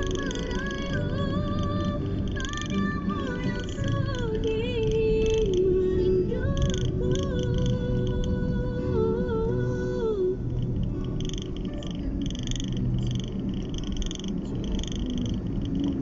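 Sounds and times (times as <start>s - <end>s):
car rumble on road: 0.0s - 16.0s.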